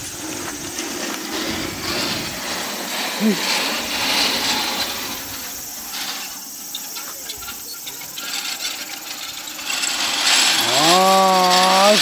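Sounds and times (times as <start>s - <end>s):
roller slide rattling and whirring: 0.0s - 12.0s.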